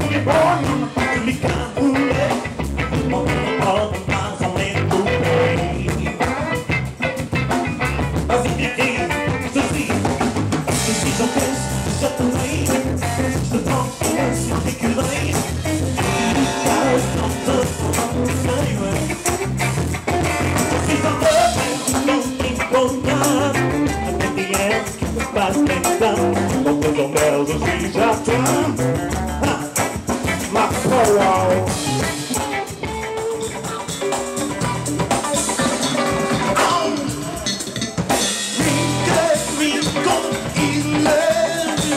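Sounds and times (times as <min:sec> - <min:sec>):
funk band playing: 0:00.0 - 0:41.9.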